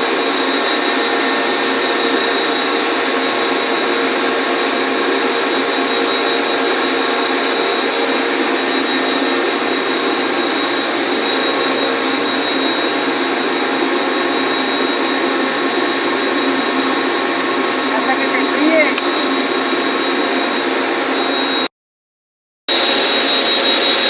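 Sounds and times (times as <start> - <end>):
motor running with whine: 0.0 - 21.7, 22.7 - 24.0.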